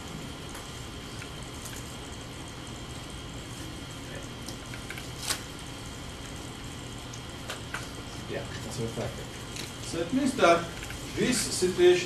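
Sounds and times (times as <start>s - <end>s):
steady hiss and hum: 0.0s - 12.0s.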